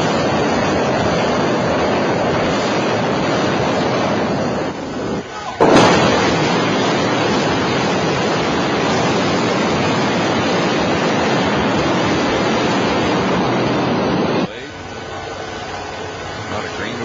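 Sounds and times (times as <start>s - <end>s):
buildings collapsing rush of noise: 0.0s - 14.5s.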